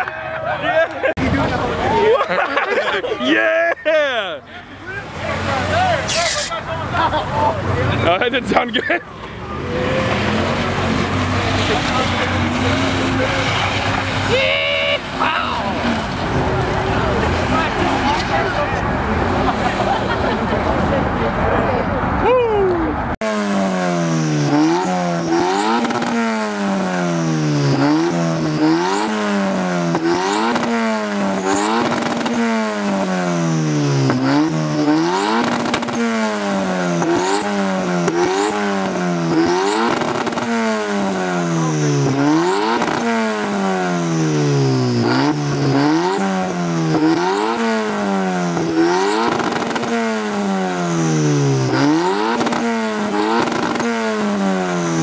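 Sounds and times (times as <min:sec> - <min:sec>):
car engine revving: 0:04.8 - 0:22.2, 0:23.0 - 0:55.0.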